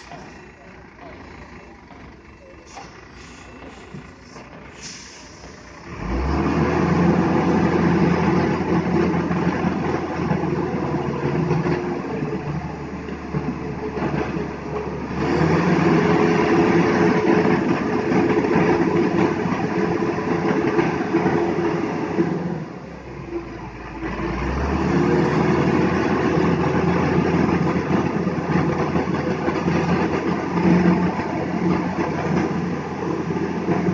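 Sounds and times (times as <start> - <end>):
diesel truck engine revving: 0.0 - 33.9.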